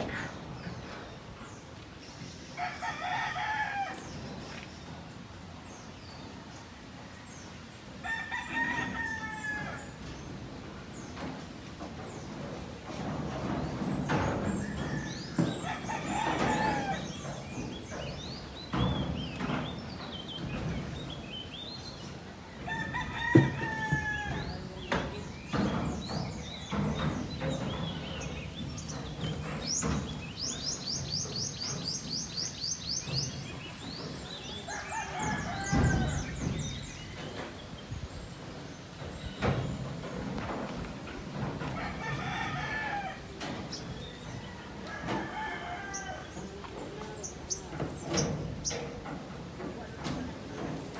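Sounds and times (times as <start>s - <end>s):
roosters crowing: 2.2s - 4.6s, 7.8s - 11.3s, 12.4s - 50.9s
chickens clucking: 8.4s - 50.9s.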